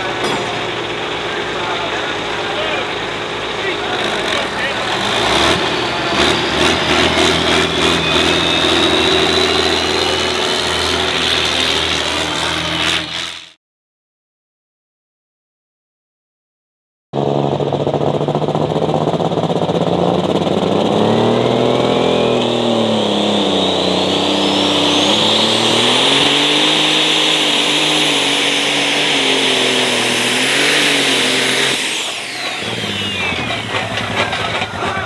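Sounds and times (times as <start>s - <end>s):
diesel engine under load: 0.0s - 13.6s, 17.2s - 35.0s
turbo whine: 0.0s - 13.6s, 17.5s - 35.0s.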